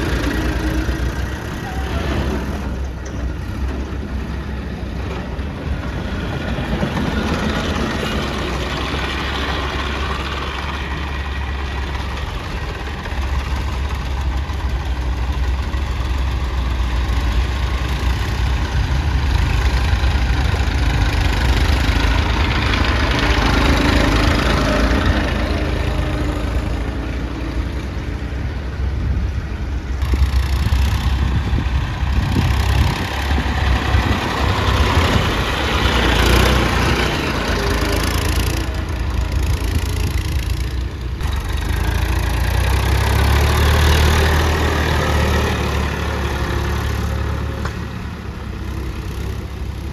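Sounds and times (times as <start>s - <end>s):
heavy diesel machinery engine: 0.0s - 49.9s.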